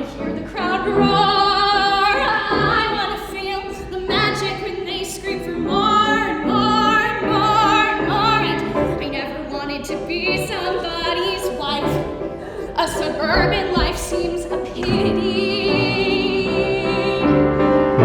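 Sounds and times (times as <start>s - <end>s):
piano accompaniment: 0.0s - 18.0s
woman singing with vibrato: 0.0s - 18.0s.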